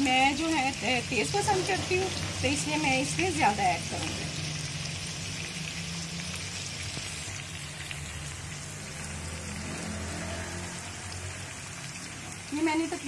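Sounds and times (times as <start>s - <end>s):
meat and onions sizzling in wok: 0.0s - 13.0s.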